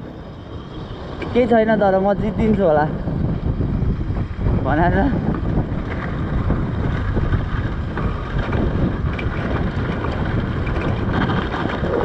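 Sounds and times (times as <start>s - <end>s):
dirt bike engine running: 0.0s - 12.0s
wind buffeting microphone: 0.0s - 12.0s.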